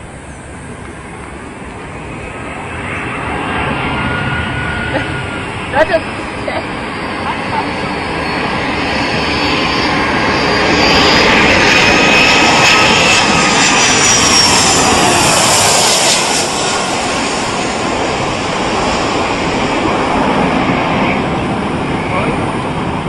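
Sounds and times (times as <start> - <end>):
airliner engine noise with whine: 0.0 - 23.0.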